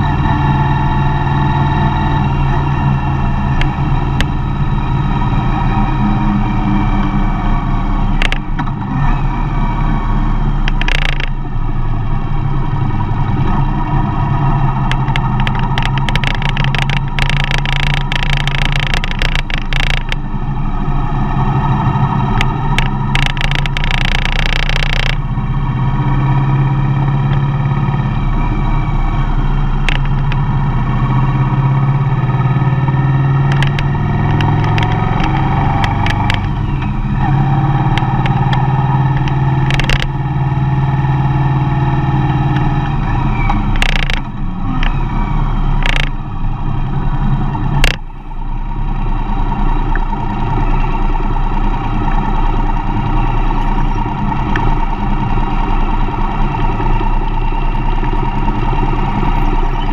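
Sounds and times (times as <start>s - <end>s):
van engine and road noise: 0.0s - 59.9s.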